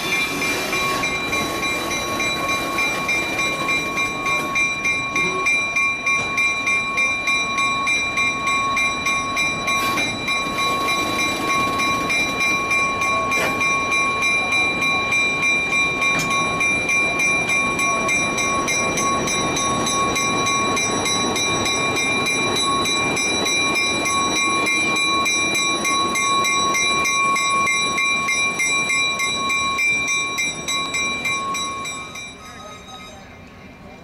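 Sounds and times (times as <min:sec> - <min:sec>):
diesel locomotive engine running: 0:00.0 - 0:34.0.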